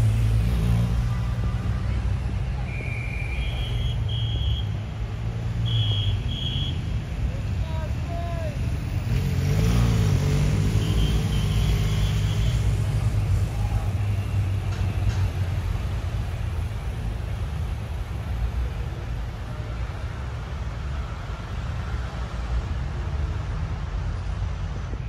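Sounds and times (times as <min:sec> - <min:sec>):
cars passing with low rumble: 0:00.0 - 0:25.0.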